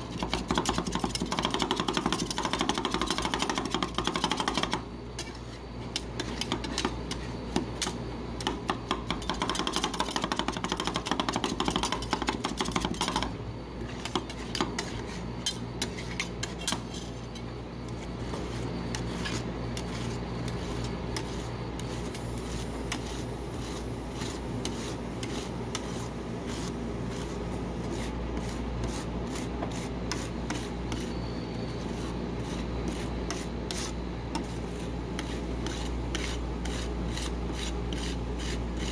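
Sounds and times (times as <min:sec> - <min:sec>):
spatulas scraping ice cream: 0:00.0 - 0:38.9.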